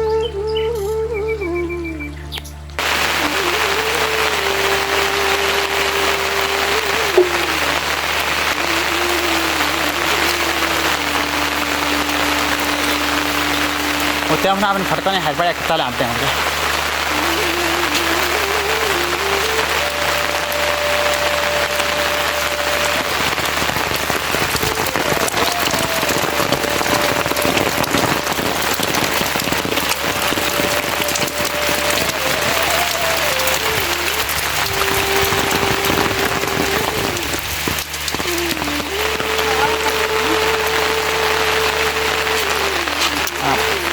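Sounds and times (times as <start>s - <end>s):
rain hiss: 2.8s - 43.9s.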